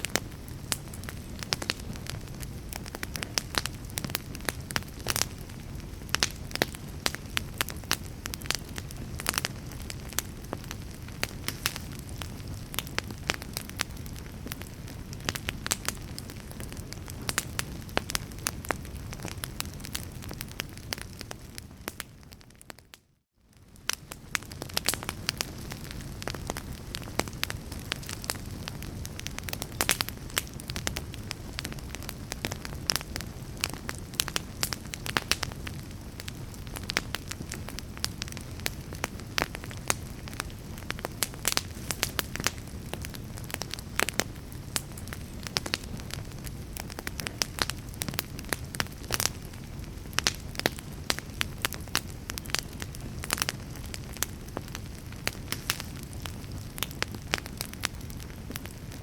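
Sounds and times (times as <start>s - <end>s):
fire burning rumble: 0.0s - 59.0s
fire popping and snapping: 0.0s - 59.0s.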